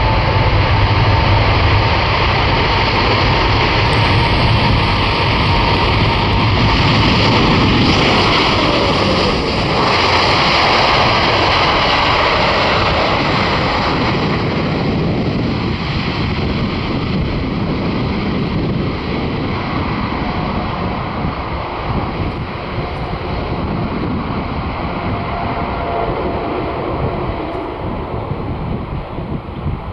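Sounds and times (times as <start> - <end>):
jet engine rushing: 0.0 - 29.9.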